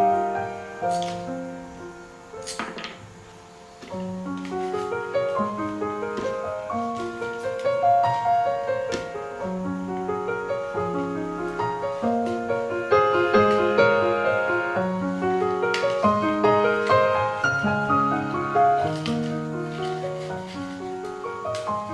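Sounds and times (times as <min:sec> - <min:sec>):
gentle piano music: 0:00.0 - 0:21.9.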